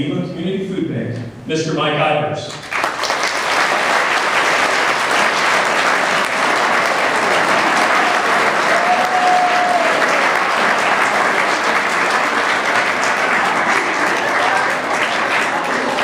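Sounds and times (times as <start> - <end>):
audience applauding: 2.5 - 16.0.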